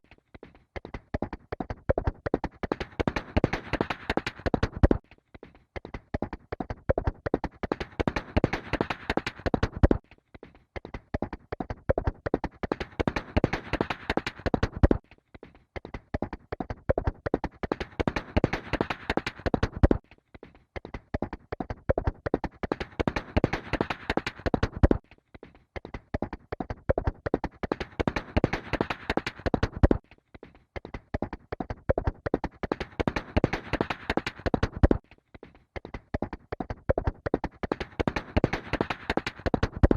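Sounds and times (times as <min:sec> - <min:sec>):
horse galloping hoofbeats: 0:00.0 - 0:05.1, 0:05.8 - 0:10.1, 0:10.8 - 0:15.0, 0:15.8 - 0:20.0, 0:20.8 - 0:25.0, 0:25.8 - 0:30.0, 0:30.8 - 0:39.9.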